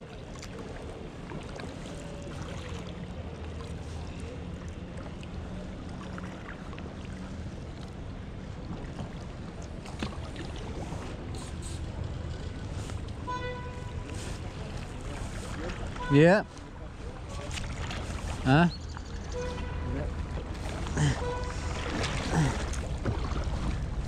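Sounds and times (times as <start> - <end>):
paddle splashes: 0.0 - 24.0.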